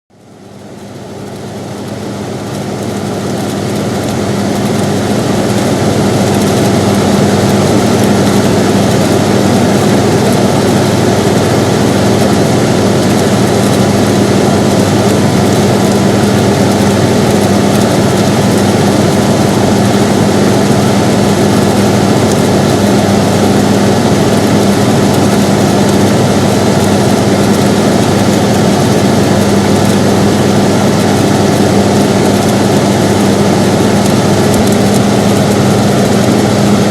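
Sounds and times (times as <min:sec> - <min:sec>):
air conditioner airflow and hum: 0:00.1 - 0:36.9.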